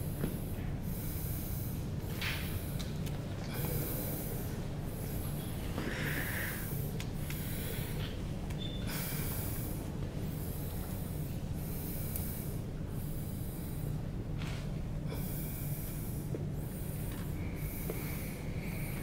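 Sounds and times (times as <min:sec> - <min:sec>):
heavy rhythmic breathing: 0:00.0 - 0:19.0
steady low hum: 0:00.0 - 0:19.0.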